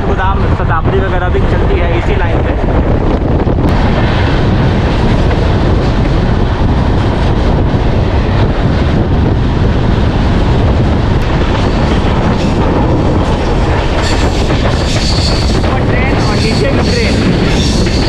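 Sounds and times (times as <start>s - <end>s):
passing train rushing: 0.0s - 18.0s
wind buffeting microphone: 0.0s - 18.0s.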